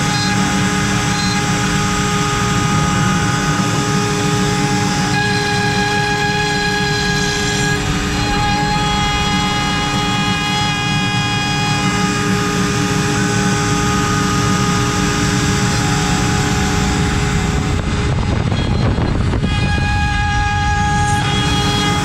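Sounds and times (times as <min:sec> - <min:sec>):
cnc router spindle whining: 0:00.0 - 0:22.0.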